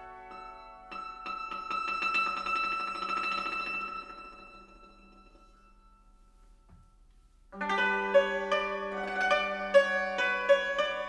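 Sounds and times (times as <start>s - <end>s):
hammered dulcimers playing: 0.0s - 6.1s, 7.6s - 11.0s.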